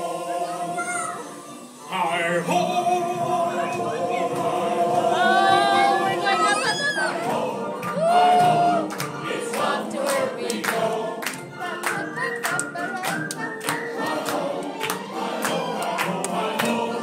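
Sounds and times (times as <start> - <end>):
chorus of voices singing: 0.0 - 17.0.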